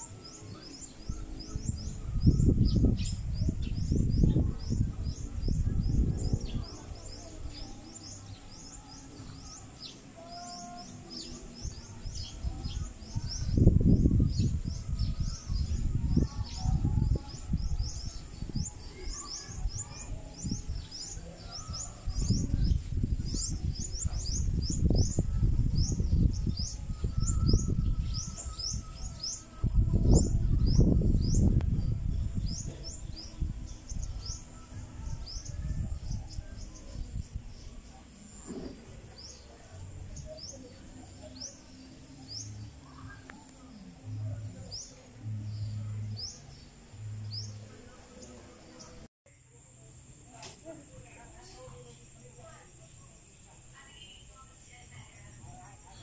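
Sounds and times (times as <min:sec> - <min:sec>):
low rumbling microphone noise: 0:00.0 - 0:49.1
small birds chirping: 0:00.0 - 0:49.1.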